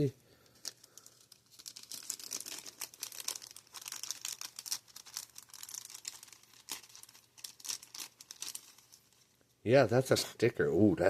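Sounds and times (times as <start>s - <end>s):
packaging crinkling and rustling: 0.4s - 9.4s.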